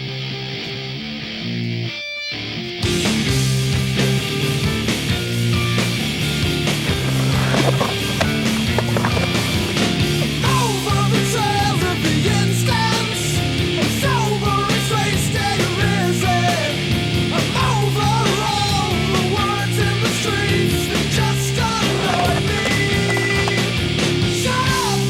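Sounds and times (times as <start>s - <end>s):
distorted hard rock music: 0.0s - 25.0s.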